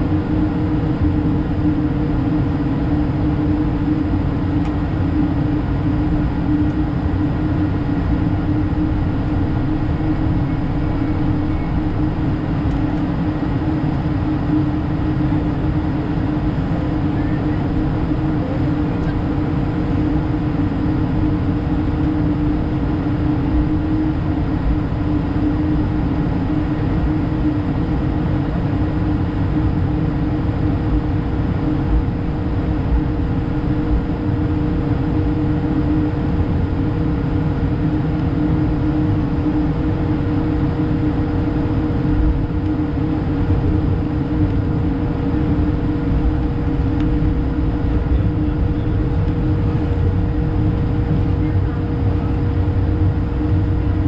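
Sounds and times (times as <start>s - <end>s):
airplane cabin rumble: 0.0s - 54.0s
steady humming tones: 0.0s - 54.0s.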